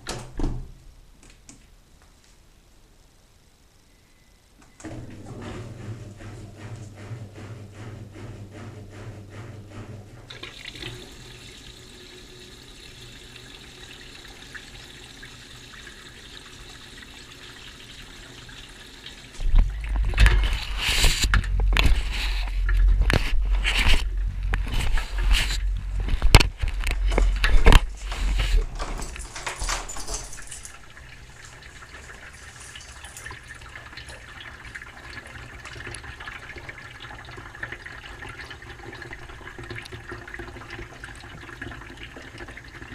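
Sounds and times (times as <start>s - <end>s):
washing machine drum rumbling: 4.8s - 42.9s
water running into drum: 4.8s - 42.9s.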